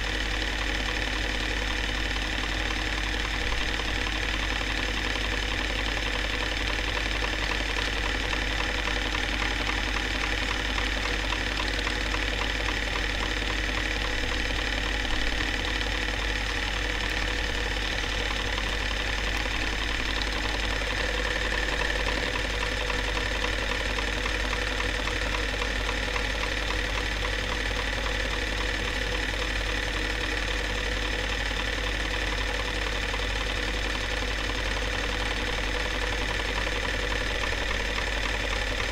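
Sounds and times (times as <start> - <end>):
film projector mechanical ticking: 0.0 - 38.9.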